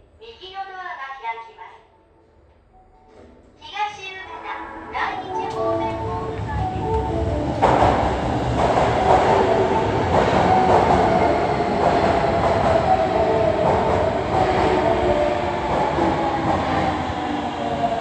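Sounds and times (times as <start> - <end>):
subway train rumbling and whining: 2.3 - 18.0.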